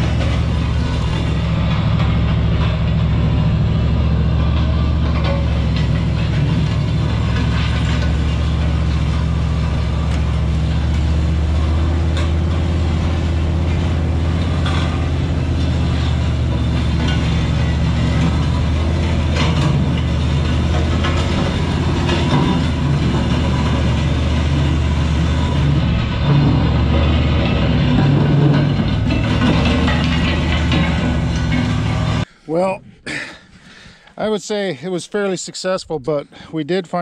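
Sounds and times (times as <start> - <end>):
steel frame and chains clanking: 0.0 - 32.3
truck engine droning: 0.0 - 32.3.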